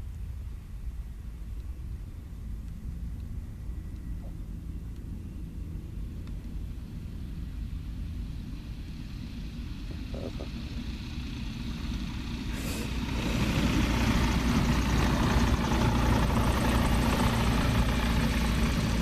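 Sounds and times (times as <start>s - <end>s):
light aircraft engine and propeller: 0.0s - 19.0s.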